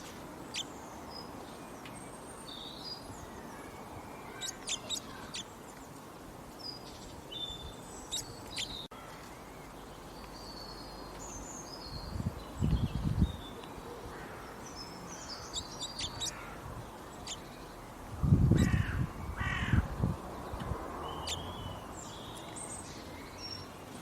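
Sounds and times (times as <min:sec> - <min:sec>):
background hiss: 0:00.0 - 0:24.0
wild birds chirping: 0:00.4 - 0:24.0.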